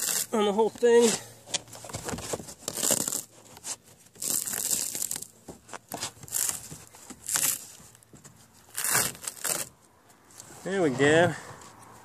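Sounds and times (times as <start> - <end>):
fibreglass tearing off wood: 0.0 - 9.9.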